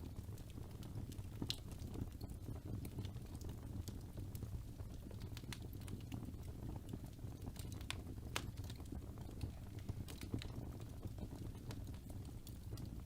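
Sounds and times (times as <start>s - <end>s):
fire crackling in fireplace: 0.0s - 13.0s.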